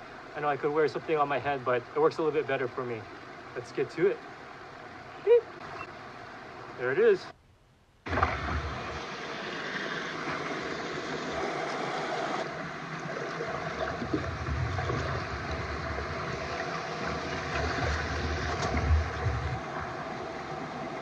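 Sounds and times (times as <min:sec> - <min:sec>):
stream water over rocks: 0:00.0 - 0:07.2, 0:08.1 - 0:21.0.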